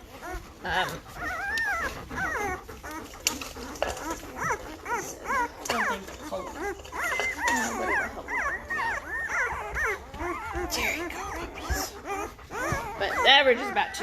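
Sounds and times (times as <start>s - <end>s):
puppies whining and squealing: 0.0s - 14.0s.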